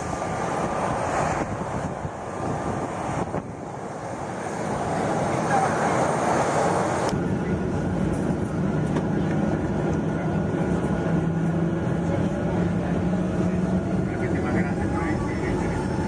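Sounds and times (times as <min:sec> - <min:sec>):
airplane engine from inside cabin: 0:00.0 - 0:16.0
wind buffeting microphone: 0:00.0 - 0:16.0.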